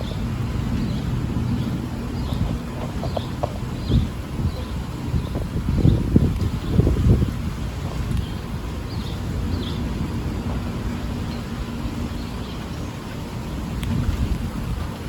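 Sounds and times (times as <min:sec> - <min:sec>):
distant thunder rumbling: 0:00.0 - 0:12.6.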